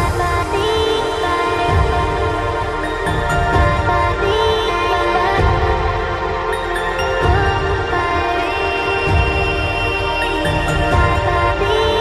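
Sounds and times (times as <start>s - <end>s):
background music with low pulse: 0.0s - 12.0s.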